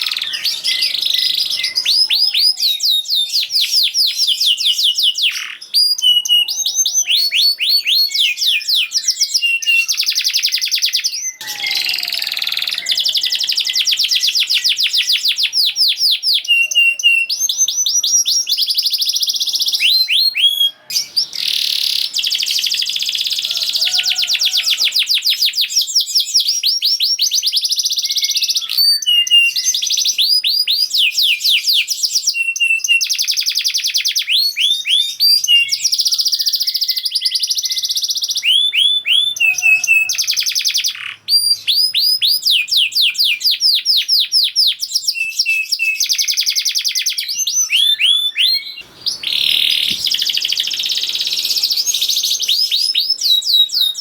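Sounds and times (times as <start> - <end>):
canary singing chirps and trills: 0.0 - 54.0.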